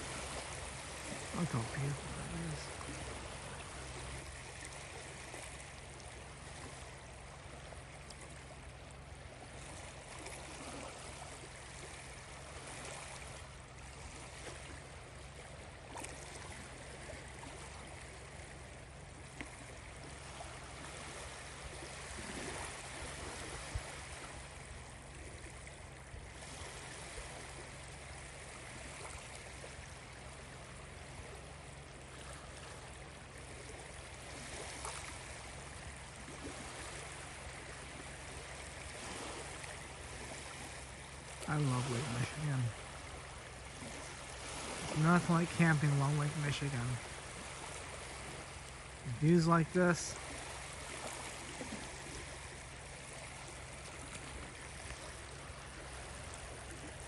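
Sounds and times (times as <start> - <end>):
lake waves washing on shore: 0.0 - 57.0.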